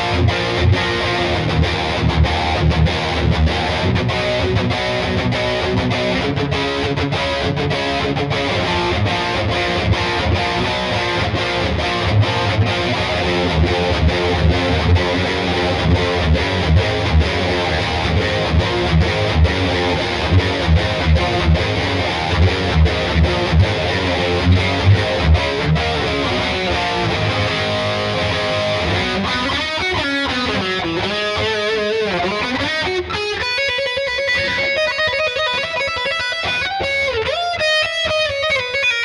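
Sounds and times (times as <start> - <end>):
distorted electric guitar riffs: 0.0 - 39.0.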